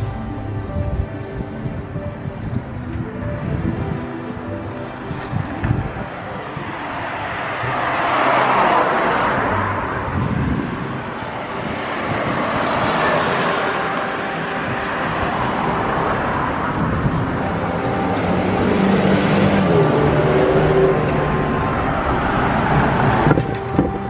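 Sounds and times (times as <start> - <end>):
cars passing: 0.0 - 24.0
van engine passing close: 0.0 - 24.0.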